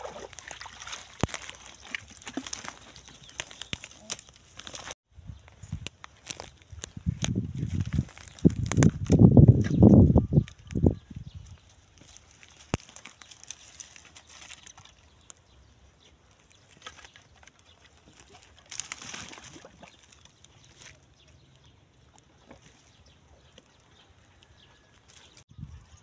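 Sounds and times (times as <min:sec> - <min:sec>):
dry twigs rustling and crackling: 0:00.1 - 0:26.0.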